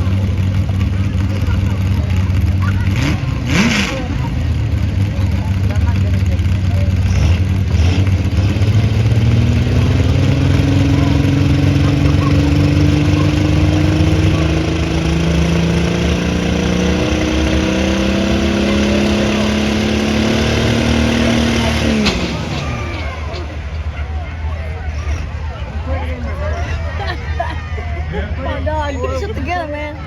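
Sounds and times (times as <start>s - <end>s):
vehicle engine under load: 0.0s - 25.5s.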